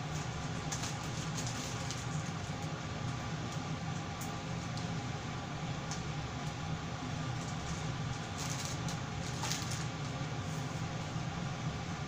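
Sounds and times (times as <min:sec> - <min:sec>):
extractor fan whirring: 0:00.0 - 0:12.0.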